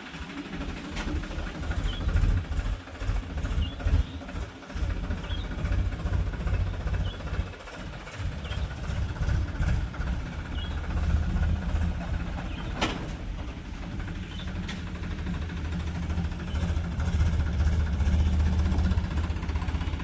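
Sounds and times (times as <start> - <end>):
tractor engine rumbling: 0.0 - 20.0.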